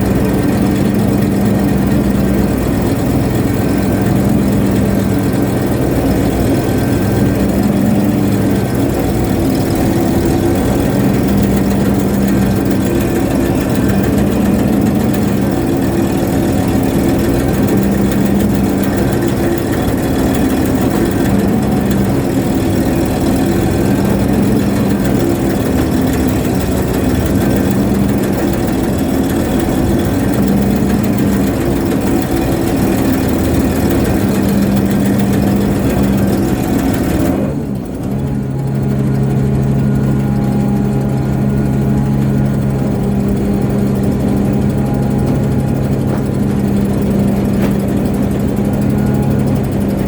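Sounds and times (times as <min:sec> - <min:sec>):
ship engine droning: 0:00.0 - 0:50.0.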